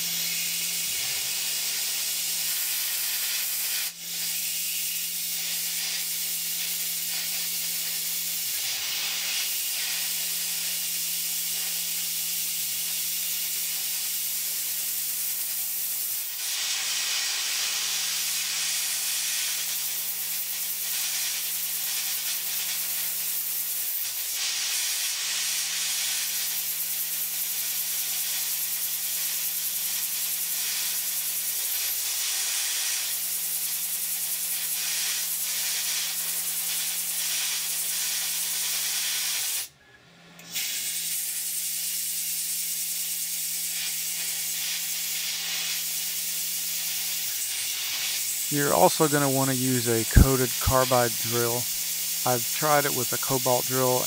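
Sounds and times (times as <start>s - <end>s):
coolant spray hissing: 0.0s - 39.7s, 40.6s - 54.0s.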